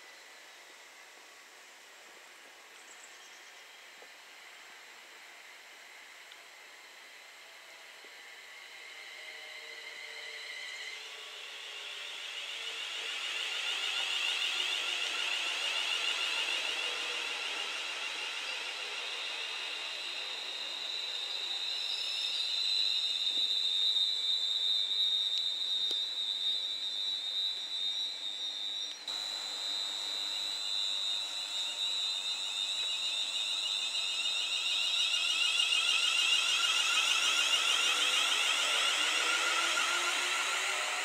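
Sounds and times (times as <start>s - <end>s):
wavering train motor whine: 0.0s - 41.0s
electric train traction whine: 3.5s - 41.0s.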